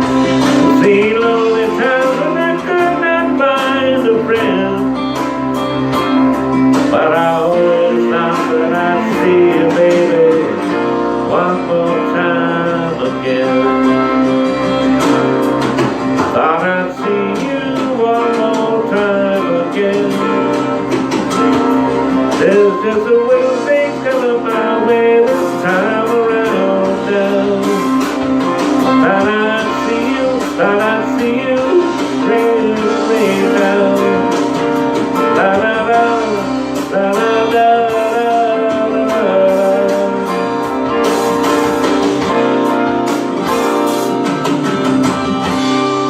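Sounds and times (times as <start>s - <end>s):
guitar music: 0.0s - 46.0s.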